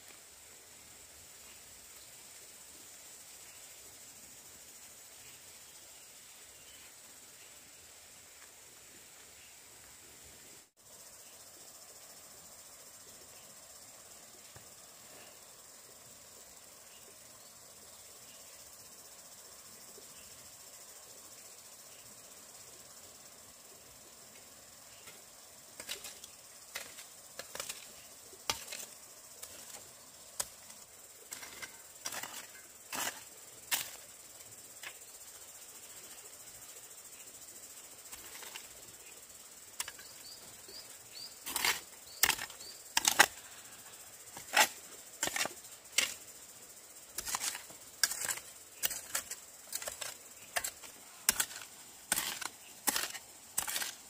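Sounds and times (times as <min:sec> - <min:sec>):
faint high insect buzz: 0:00.0 - 0:54.0.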